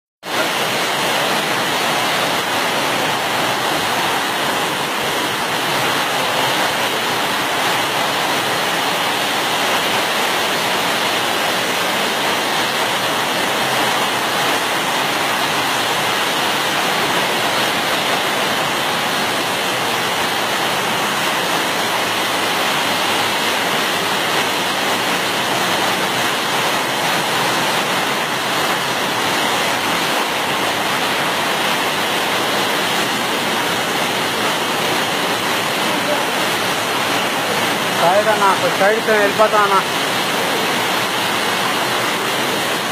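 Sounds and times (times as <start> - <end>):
rainwater rushing down steps: 0.2 - 42.9.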